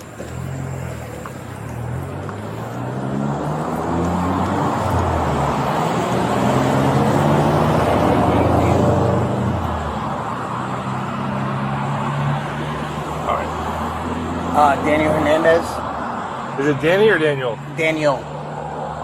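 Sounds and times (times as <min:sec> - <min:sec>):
vehicle engine and tyre noise: 0:00.0 - 0:19.0.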